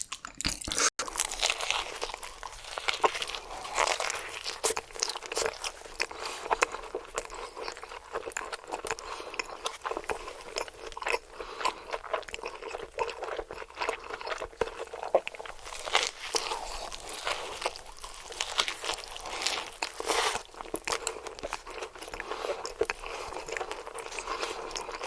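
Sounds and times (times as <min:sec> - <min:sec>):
crunching and chewing: 0:00.0 - 0:25.0.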